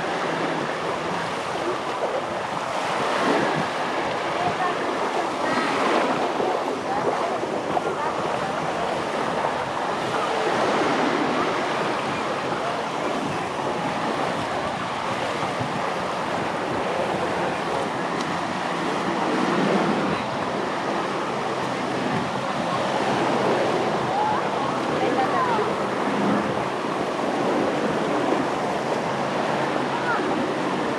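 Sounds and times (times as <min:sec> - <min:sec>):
waves washing onto sand: 0:00.0 - 0:30.9.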